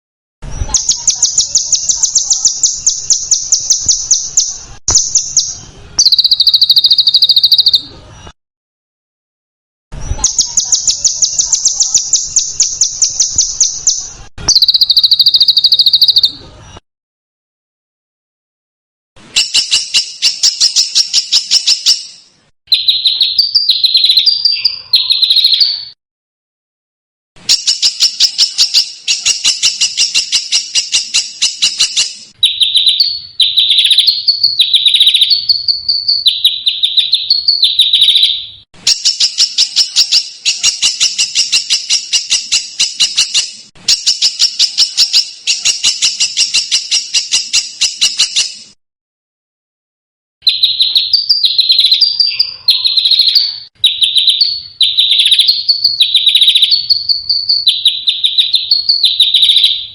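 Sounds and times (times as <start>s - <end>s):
songbird whistled notes: 0.6s - 7.9s, 10.0s - 16.4s, 19.3s - 26.0s, 27.5s - 48.8s, 50.4s - 59.9s
songbird rasping calls: 0.7s - 7.8s, 10.2s - 16.3s, 19.3s - 25.9s, 27.5s - 48.6s, 50.4s - 59.9s.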